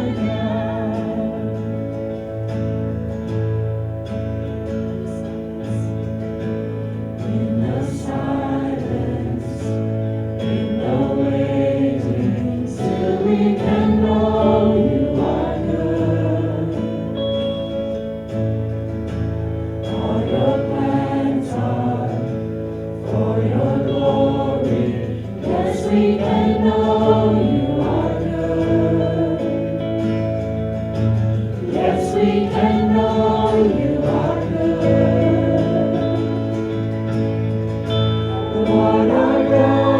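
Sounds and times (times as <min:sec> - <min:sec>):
group singing worship song: 0:00.0 - 0:03.5, 0:05.1 - 0:39.9
instrumental accompaniment: 0:00.0 - 0:39.9.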